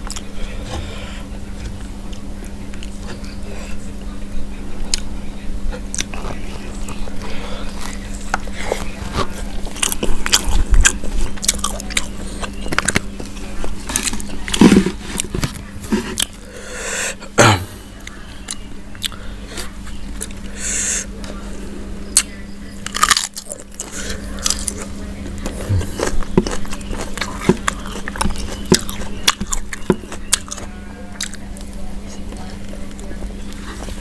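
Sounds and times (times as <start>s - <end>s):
chewing crunchy food: 0.0s - 4.2s, 4.8s - 16.6s, 18.0s - 34.0s
steady low hum: 0.0s - 34.0s.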